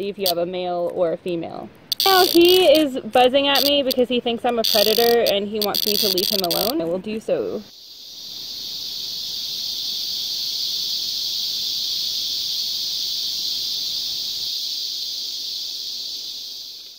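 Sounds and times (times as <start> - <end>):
cicada buzzing high-pitched: 1.9 - 6.8, 7.7 - 16.9.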